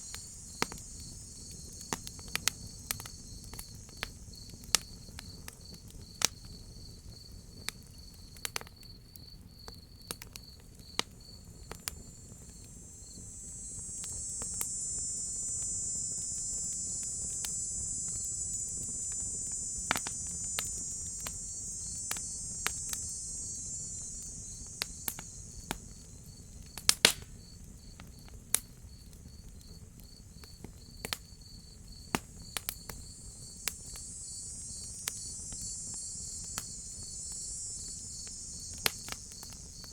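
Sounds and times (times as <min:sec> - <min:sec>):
cicada buzz: 0:00.0 - 0:08.3, 0:11.1 - 0:28.3, 0:31.3 - 0:39.9
wood fire crackling: 0:00.0 - 0:08.7, 0:10.1 - 0:27.4, 0:32.0 - 0:39.9
crickets chirping: 0:00.0 - 0:39.9.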